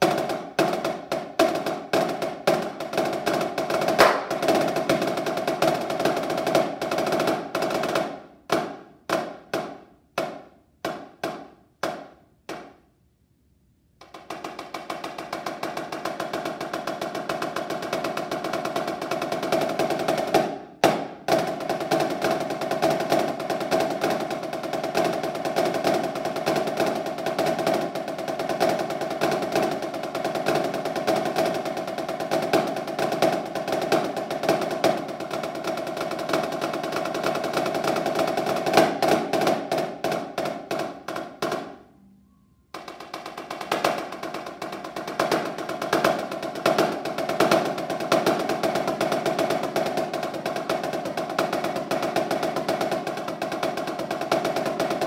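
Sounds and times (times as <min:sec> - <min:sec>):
snare drum rolls: 0:00.0 - 0:13.0, 0:14.0 - 0:42.0, 0:42.7 - 0:55.0.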